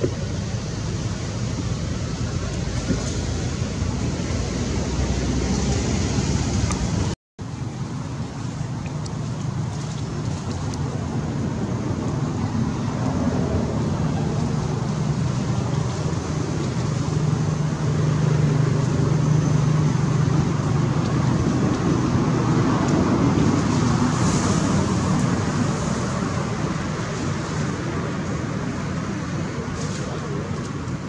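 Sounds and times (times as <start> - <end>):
outdoor noise: 0.0 - 31.0
vehicle engine humming: 0.0 - 31.0.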